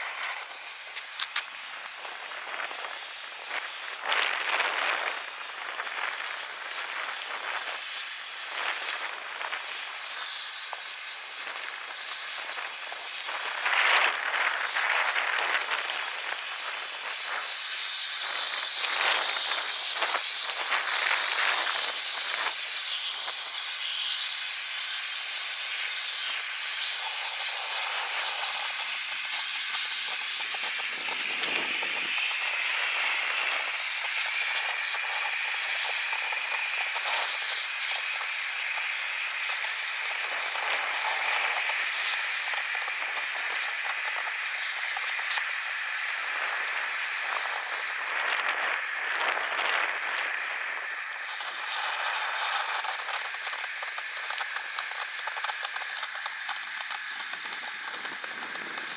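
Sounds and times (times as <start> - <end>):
firework fountain hissing: 0.0 - 58.9.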